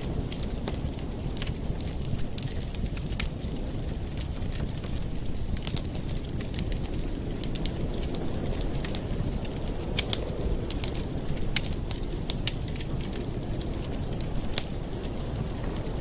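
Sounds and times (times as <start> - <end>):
campfire wood crackling: 0.0 - 16.0
low rumble of flames: 0.0 - 16.0.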